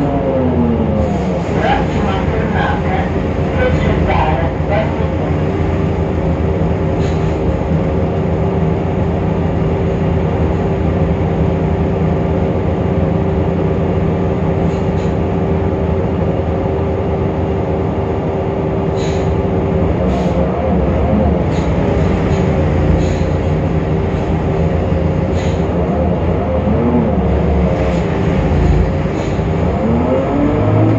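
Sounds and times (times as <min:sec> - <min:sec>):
bus engine whine: 0:00.0 - 0:30.9
low engine drone: 0:00.0 - 0:30.9.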